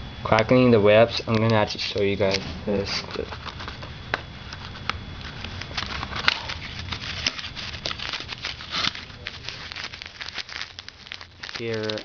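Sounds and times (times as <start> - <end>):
packaging crinkling and rustling: 1.8 - 12.0.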